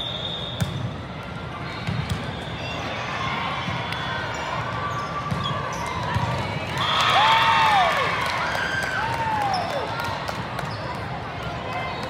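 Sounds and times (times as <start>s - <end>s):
crowd chatter in a hall: 0.0s - 12.0s.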